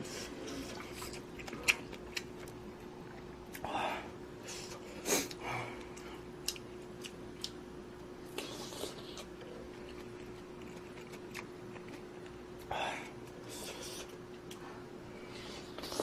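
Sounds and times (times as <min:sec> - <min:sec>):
chewing: 0:00.0 - 0:03.7, 0:04.6 - 0:07.6, 0:08.3 - 0:14.7
faint steady hum: 0:00.0 - 0:16.0.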